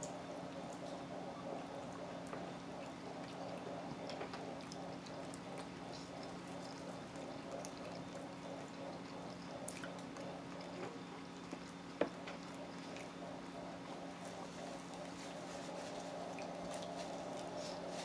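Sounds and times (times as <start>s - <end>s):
steady low hum: 0.0s - 18.0s
wet chewing: 1.8s - 18.0s.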